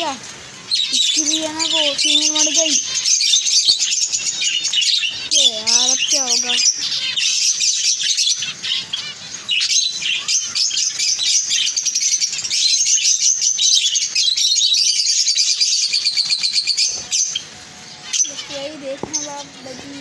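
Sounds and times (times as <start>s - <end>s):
budgerigars chirping and chattering: 0.0s - 20.0s.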